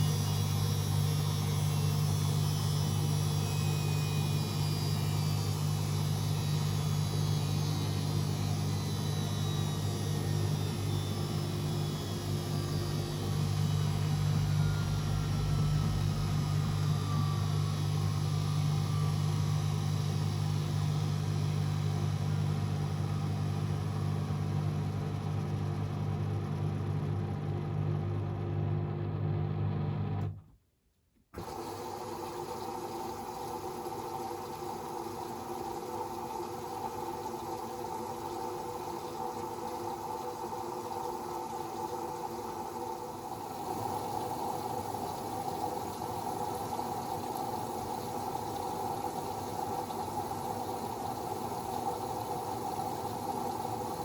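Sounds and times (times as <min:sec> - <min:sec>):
water rushing through machine: 0:00.0 - 0:24.6, 0:31.4 - 0:54.0
washing machine humming: 0:00.0 - 0:30.4, 0:31.4 - 0:54.0.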